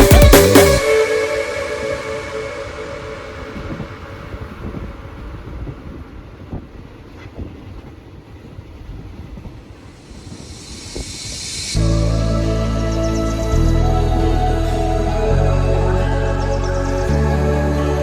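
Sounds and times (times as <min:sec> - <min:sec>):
train running rumble: 0:03.1 - 0:18.0.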